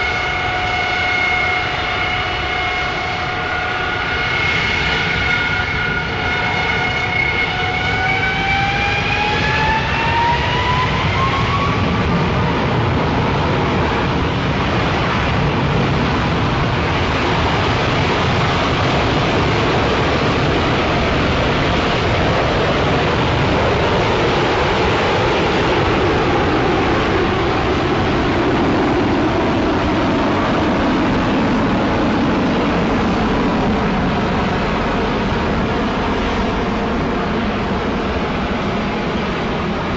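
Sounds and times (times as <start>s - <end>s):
jet engines rushing rumble: 0.0s - 39.9s.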